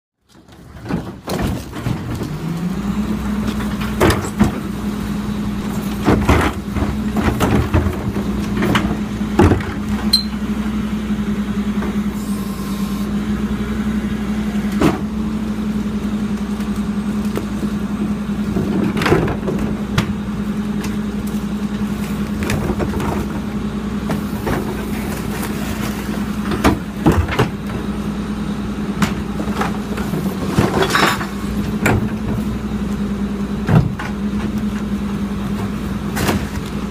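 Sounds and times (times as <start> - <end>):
garbage truck diesel engine: 0.2 - 36.9
garbage carts clanking: 0.3 - 10.5, 14.6 - 36.9.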